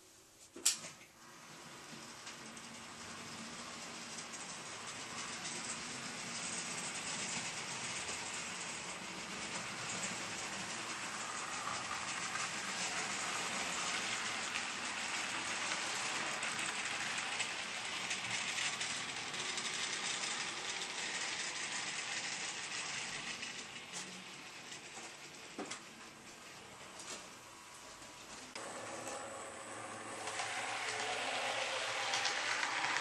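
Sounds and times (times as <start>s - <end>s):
model train wheels clattering: 0.6s - 33.0s.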